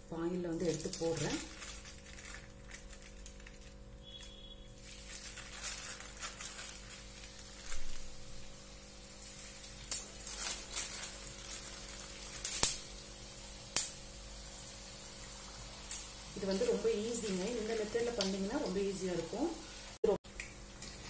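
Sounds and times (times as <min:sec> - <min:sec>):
crackers sizzling in hot oil: 0:00.1 - 0:21.0.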